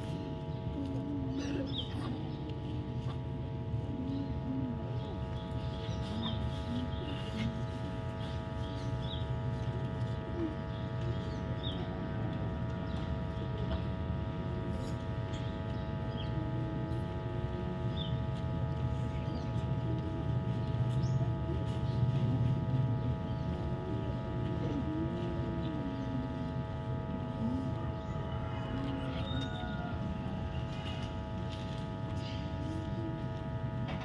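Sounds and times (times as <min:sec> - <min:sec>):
children murmuring: 0:00.0 - 0:34.0
constant hum: 0:00.0 - 0:34.0.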